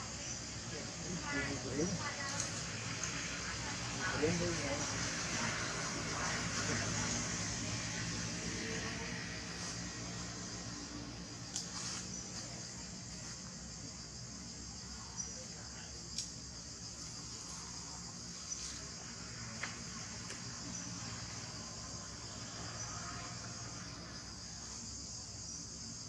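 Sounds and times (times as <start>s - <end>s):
forest insects chorus: 0.0s - 26.0s.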